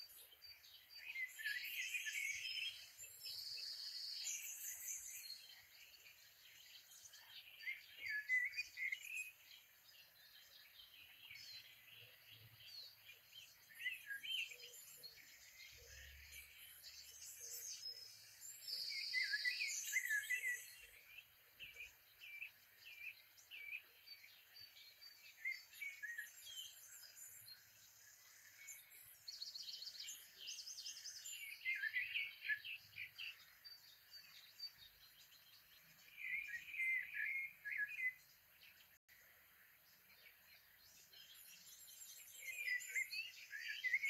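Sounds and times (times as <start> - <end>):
birds chirping and singing: 0.0 - 44.0
faint outdoor hiss: 0.0 - 44.0.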